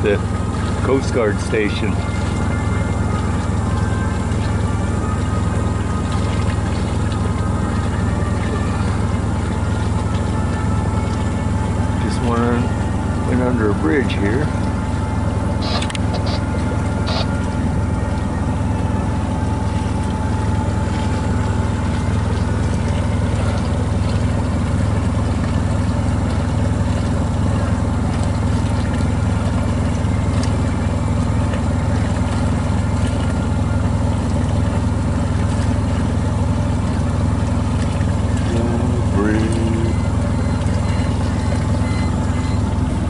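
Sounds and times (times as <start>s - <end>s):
boat engine droning: 0.0s - 43.0s
water hissing along hull: 0.0s - 43.0s.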